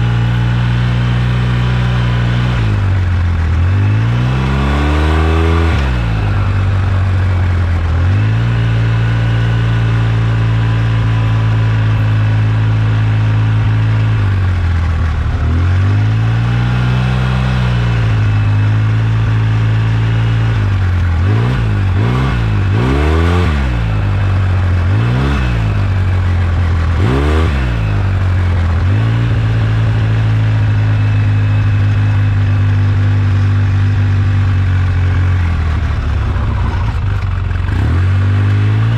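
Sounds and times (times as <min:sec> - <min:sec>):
engine running and revving: 0:00.0 - 0:38.9.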